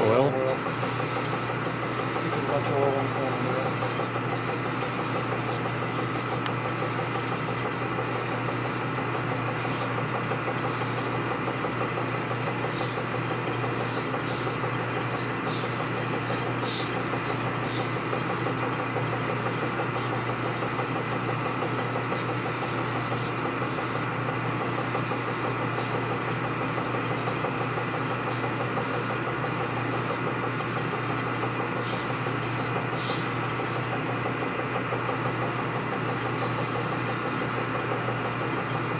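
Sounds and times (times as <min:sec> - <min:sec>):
lathe motor humming: 0:00.0 - 0:36.4.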